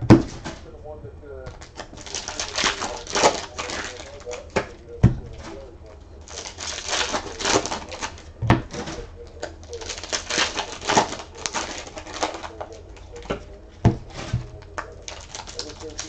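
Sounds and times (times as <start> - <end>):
cards and foil packs rustling: 0.2 - 16.0.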